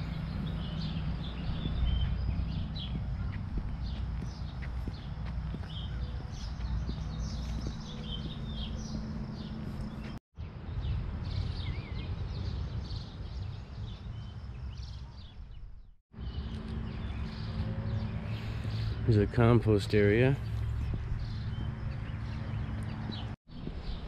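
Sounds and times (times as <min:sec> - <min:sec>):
steady low rumble: 0:00.0 - 0:14.5, 0:15.4 - 0:24.0
birds chirping and singing: 0:00.0 - 0:24.0.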